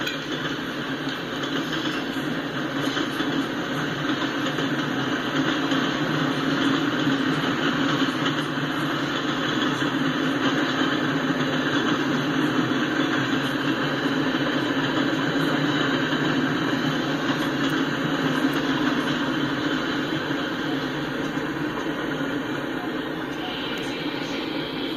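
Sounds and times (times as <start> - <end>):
steel wheels rolling on rails: 0.0 - 24.9.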